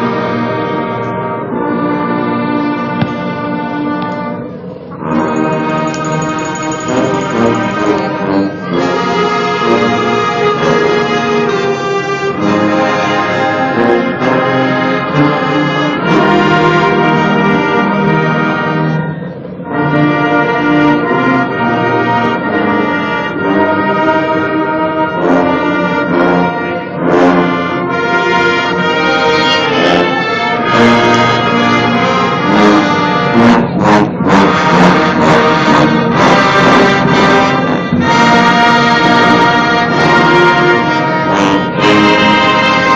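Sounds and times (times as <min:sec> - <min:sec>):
brass band playing a hymn: 0:00.0 - 0:42.9.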